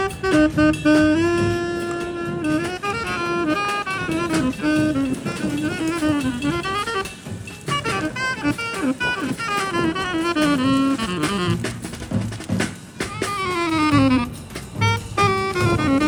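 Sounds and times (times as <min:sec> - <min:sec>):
drums: 0:00.0 - 0:16.0
lead instrument melody: 0:00.0 - 0:16.0.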